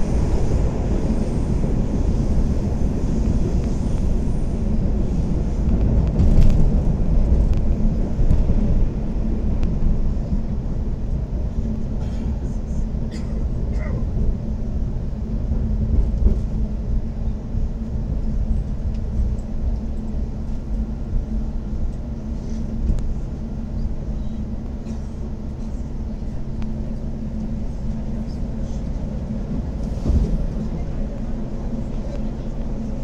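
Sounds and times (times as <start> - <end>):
metro train rumbling: 0.0 - 33.0.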